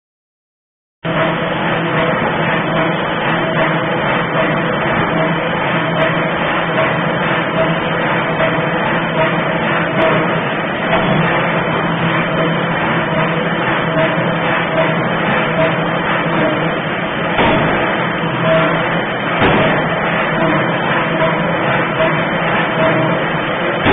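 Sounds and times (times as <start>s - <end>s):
forging hammer running: 1.0s - 23.9s.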